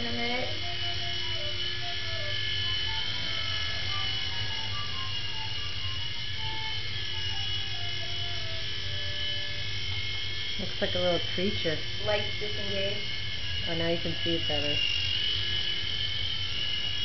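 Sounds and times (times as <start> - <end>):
toy helicopter rotors buzzing: 0.0 - 17.0.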